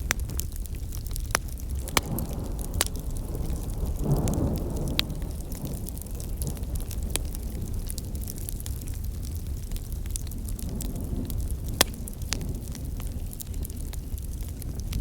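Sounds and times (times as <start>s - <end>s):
campfire crackling and popping: 0.0s - 15.0s
low rumble: 0.0s - 15.0s.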